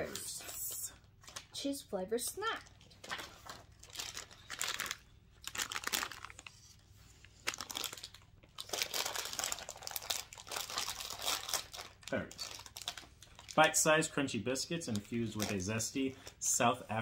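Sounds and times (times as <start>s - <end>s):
plastic snack packet crinkling: 2.4s - 16.7s.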